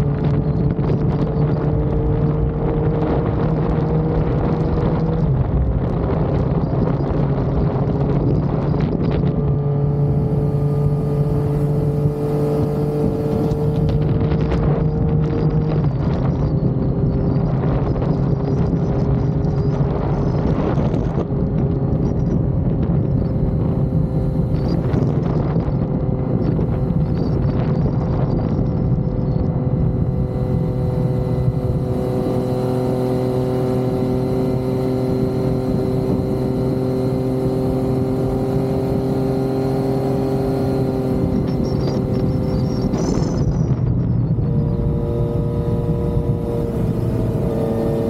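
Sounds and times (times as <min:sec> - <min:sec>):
motorcycle engine cruising: 0:00.0 - 0:48.0
wind noise gusts: 0:00.0 - 0:48.0.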